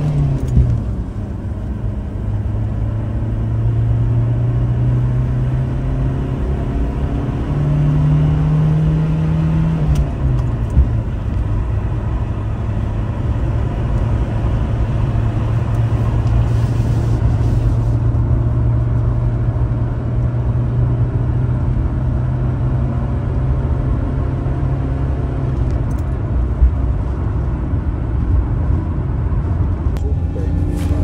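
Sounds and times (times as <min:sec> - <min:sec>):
diesel engine drone in cabin: 0:00.0 - 0:31.0
road noise: 0:00.0 - 0:31.0.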